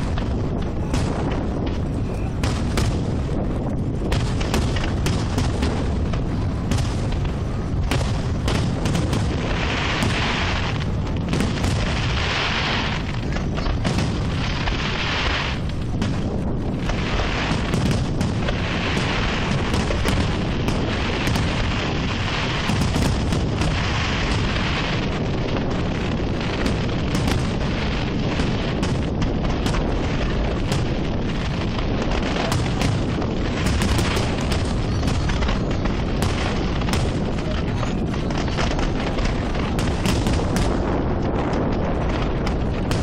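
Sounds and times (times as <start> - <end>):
continuous rumble: 0.0 - 43.0
fireworks booming: 0.0 - 43.0
fireworks crackling: 0.0 - 43.0.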